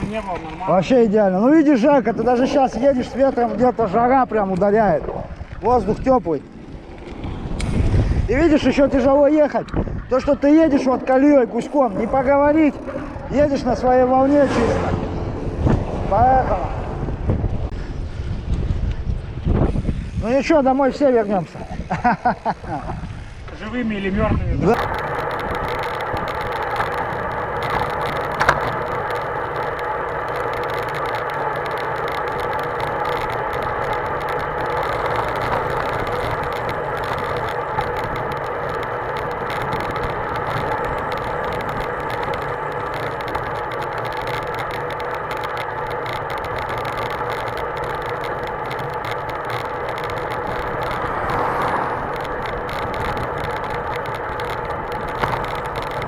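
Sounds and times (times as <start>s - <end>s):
bicycle tyres rolling: 0.0s - 56.0s
wind rumbling on microphone: 0.0s - 56.0s.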